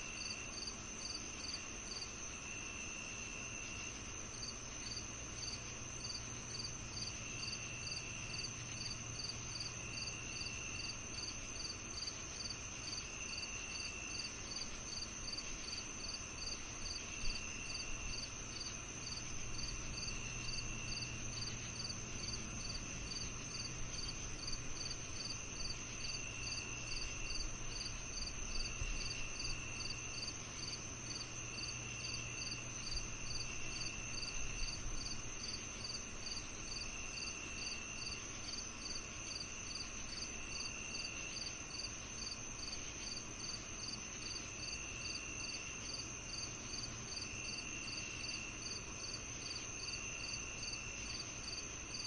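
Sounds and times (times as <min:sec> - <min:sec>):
cricket regular chirping: 0:00.0 - 0:52.0
insect lower trill: 0:00.0 - 0:52.0
insect steady high trill: 0:00.0 - 0:52.0.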